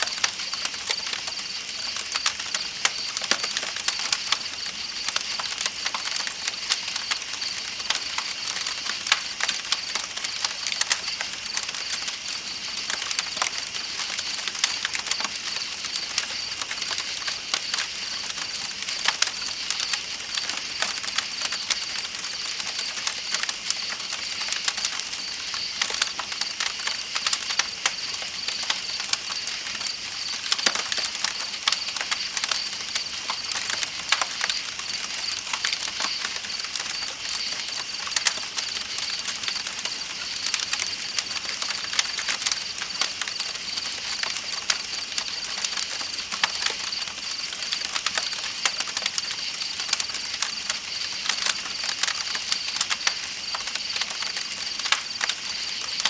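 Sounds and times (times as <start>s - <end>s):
campfire crackling and popping: 0.0s - 56.0s
night insects chirring: 0.0s - 56.0s.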